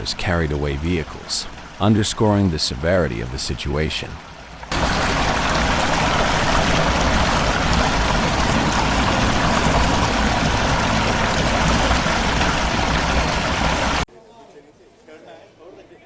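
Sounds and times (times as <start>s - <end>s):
floodwater rushing: 0.0s - 14.1s.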